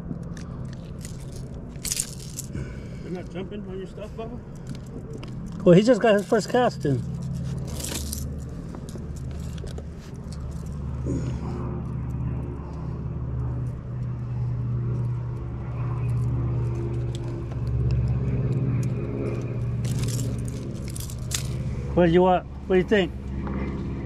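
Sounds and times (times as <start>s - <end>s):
motor droning: 0.0s - 24.0s.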